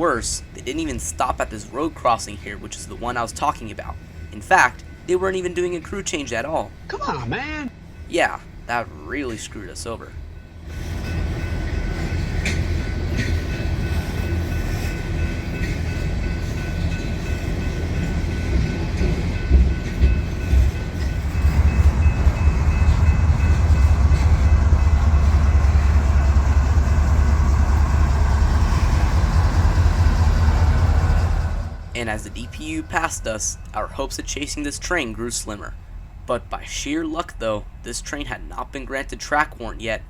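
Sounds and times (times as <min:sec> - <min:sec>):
train wheels rumbling on rail: 0:07.8 - 0:40.0.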